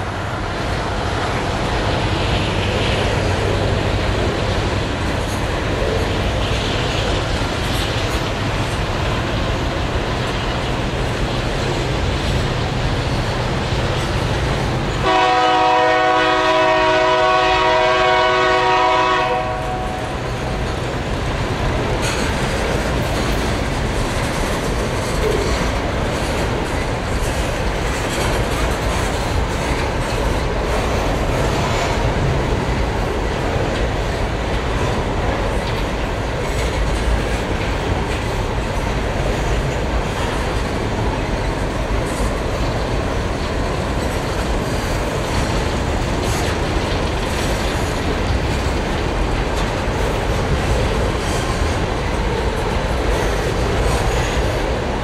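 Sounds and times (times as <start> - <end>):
wheels clicking over rail joints: 0.0 - 18.2, 18.9 - 55.0
train wheels rumbling on rails: 0.0 - 55.0.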